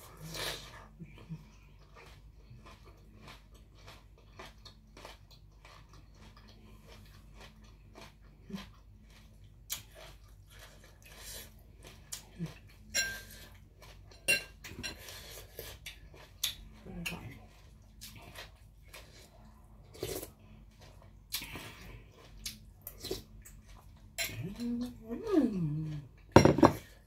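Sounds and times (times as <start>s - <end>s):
person chewing: 0.0s - 27.0s.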